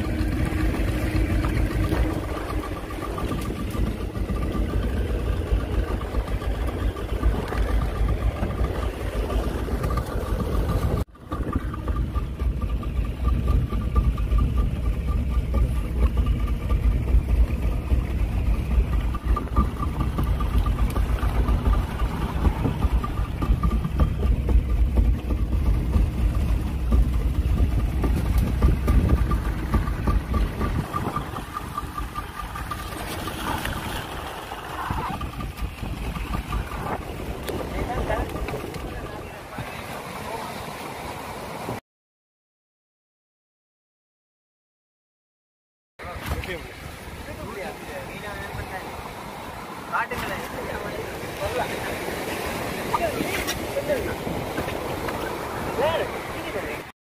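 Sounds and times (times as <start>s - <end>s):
outboard motor running: 0.0s - 41.8s, 46.0s - 56.9s.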